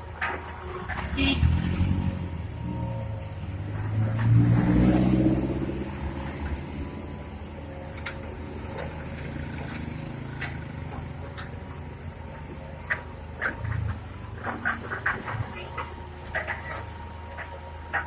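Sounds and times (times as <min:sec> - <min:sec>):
diesel engine revving: 0:00.6 - 0:18.0.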